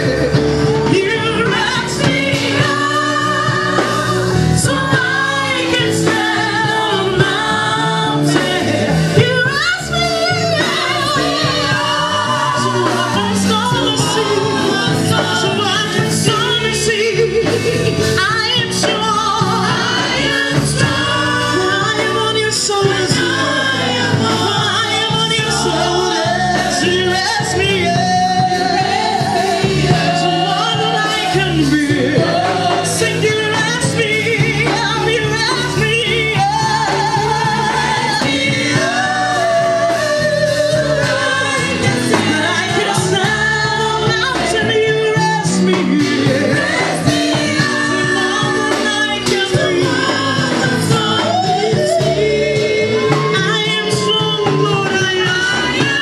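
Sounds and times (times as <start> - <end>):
women's choir singing gospel: 0.0 - 56.0.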